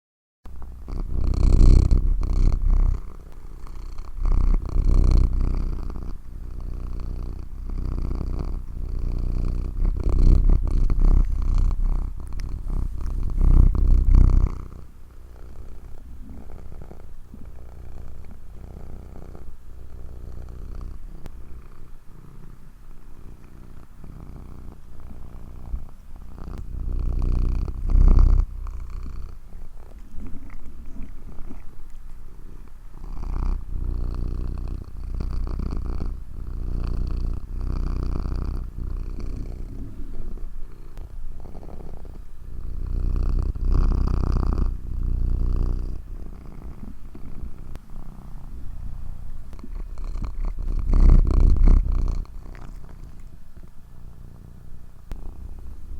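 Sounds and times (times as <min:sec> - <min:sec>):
cat purring: 0:00.5 - 0:55.9.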